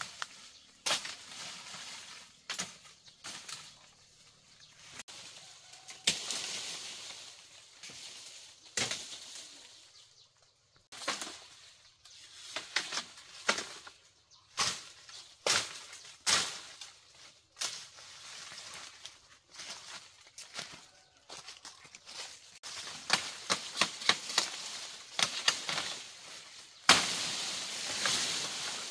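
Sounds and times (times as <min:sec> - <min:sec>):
leaves rustling and crackling: 0:00.0 - 0:10.2, 0:10.9 - 0:28.9.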